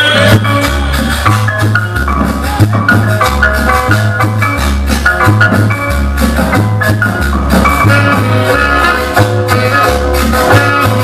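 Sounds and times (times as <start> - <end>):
cumbia music over sound system: 0.0 - 11.0.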